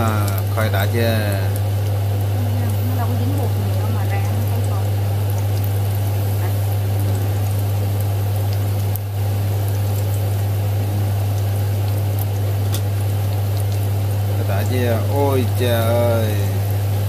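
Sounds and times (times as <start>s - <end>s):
food bubbling in hot oil: 0.0s - 17.0s
low electrical hum: 0.0s - 17.0s.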